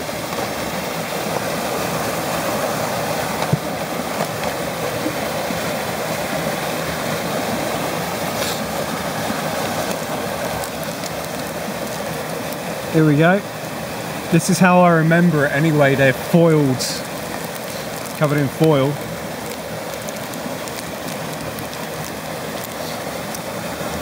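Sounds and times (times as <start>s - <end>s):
small waterfall rushing: 0.0s - 24.0s.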